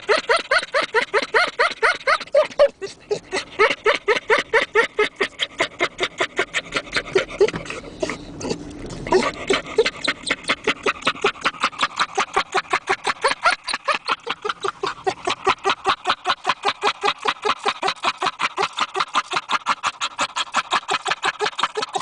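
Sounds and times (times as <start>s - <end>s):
dog panting: 0.0s - 22.0s.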